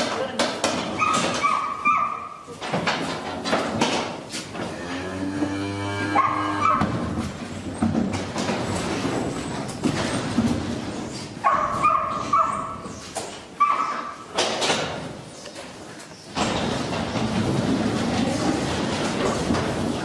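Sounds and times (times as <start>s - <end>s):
hooves clattering on metal: 0.0s - 20.0s.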